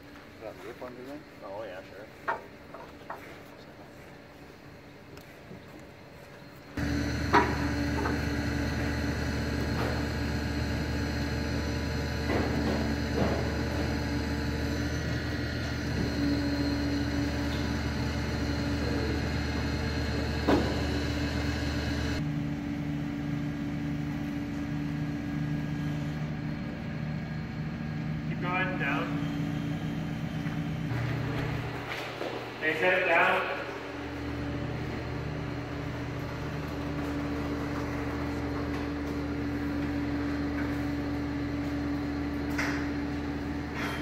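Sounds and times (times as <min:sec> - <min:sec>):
truck engine and crane running: 0:06.2 - 0:44.0.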